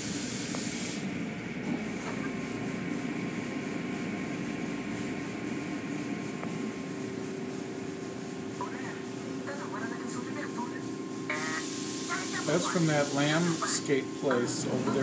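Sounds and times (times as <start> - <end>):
car wash machinery humming: 0.0 - 15.0
faint steady whine: 1.2 - 15.0.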